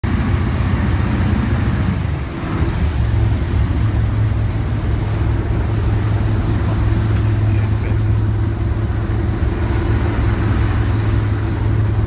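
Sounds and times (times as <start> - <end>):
boat engine drone: 0.0 - 12.0
rushing wind: 0.0 - 12.0
waves breaking on hull: 0.0 - 12.0.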